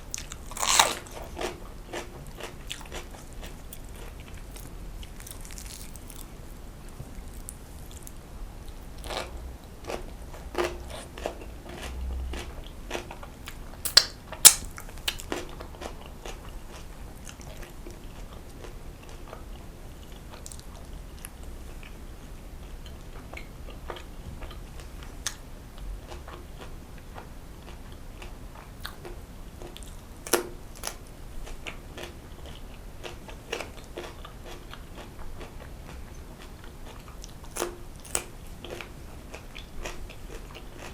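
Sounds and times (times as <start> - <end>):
chewing and biting: 0.0 - 8.2, 9.0 - 19.5, 26.0 - 40.9.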